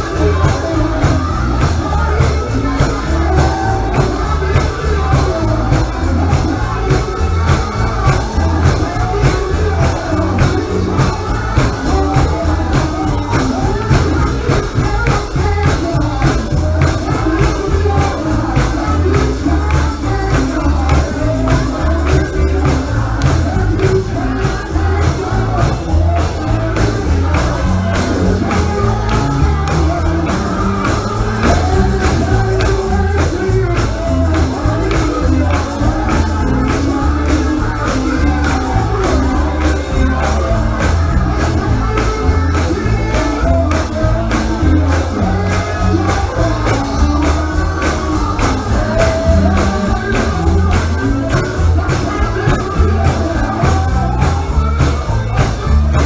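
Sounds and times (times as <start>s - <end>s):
gospel band with bass and drums: 0.0s - 56.0s
person singing: 0.0s - 56.0s.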